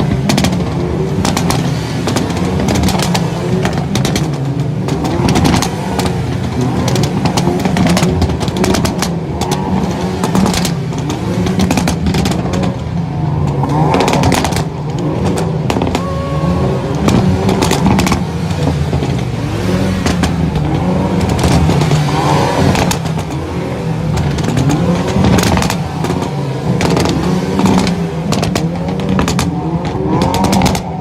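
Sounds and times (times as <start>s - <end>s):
car engines revving: 0.0s - 31.0s
exhaust pops and bangs: 0.0s - 31.0s.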